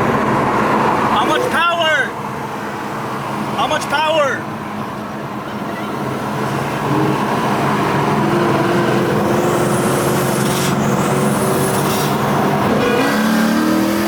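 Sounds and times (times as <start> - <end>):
car engine cruising: 0.0 - 14.0
road noise: 0.0 - 14.0.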